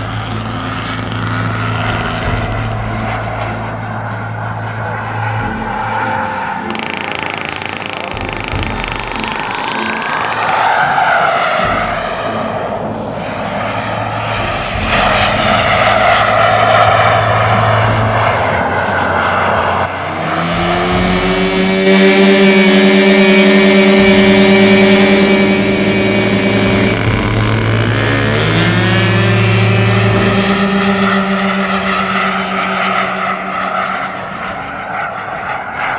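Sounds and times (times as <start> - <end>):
model airplane motor whine: 0.0 - 35.9
steady engine drone: 0.0 - 35.9.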